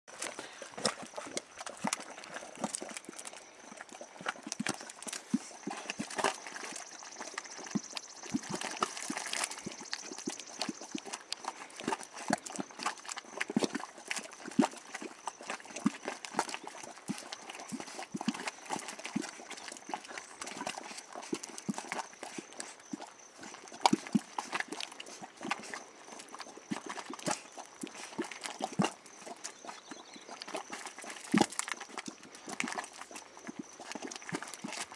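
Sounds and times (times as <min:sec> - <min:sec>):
mud bubbling and popping: 0:00.1 - 0:34.9.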